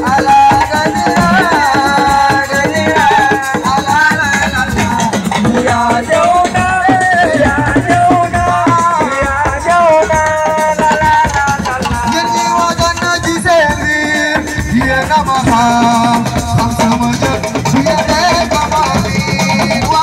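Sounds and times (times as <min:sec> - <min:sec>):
hand drums and rattle: 0:00.0 - 0:20.0
person singing: 0:00.0 - 0:20.0.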